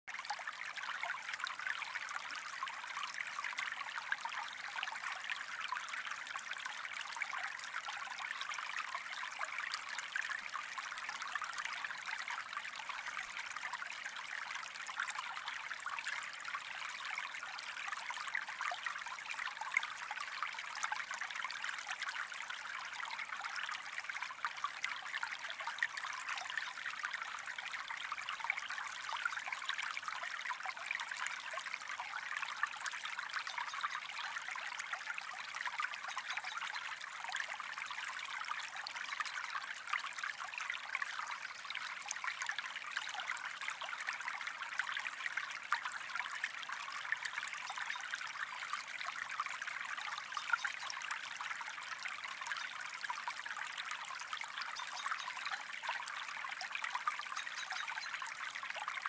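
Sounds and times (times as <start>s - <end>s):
small stream trickling: 0.0s - 59.0s.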